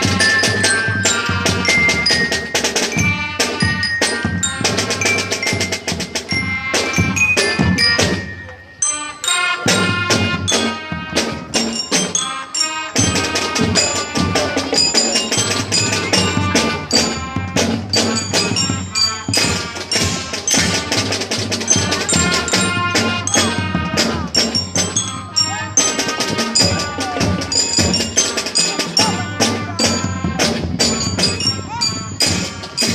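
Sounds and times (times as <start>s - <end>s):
bells and marimba ringing: 0.0s - 32.9s
drums: 0.0s - 32.9s
marching band playing: 0.0s - 32.9s.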